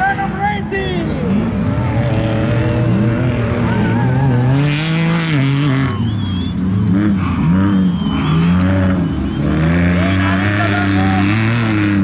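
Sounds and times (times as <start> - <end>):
truck engine revving: 1.2 - 12.0.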